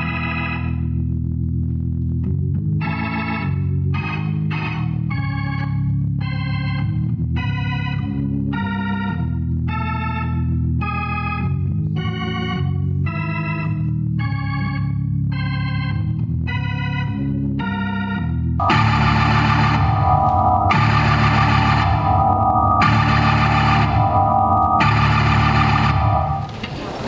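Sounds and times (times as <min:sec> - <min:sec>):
organ music: 0:00.0 - 0:01.1, 0:02.4 - 0:26.5.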